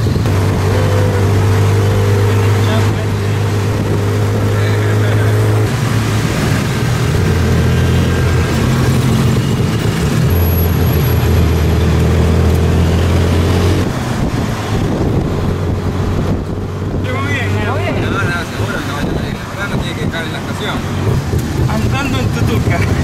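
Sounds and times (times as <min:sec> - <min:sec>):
road and traffic noise: 0:00.0 - 0:23.0
three-wheeler engine running: 0:00.0 - 0:23.0.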